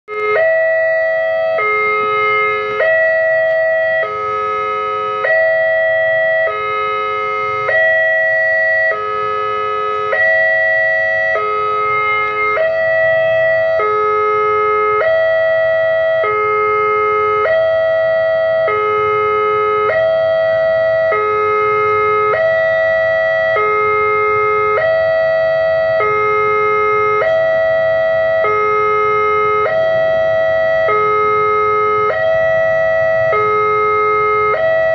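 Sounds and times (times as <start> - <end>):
level crossing alarm two-tone: 0.1 - 34.9.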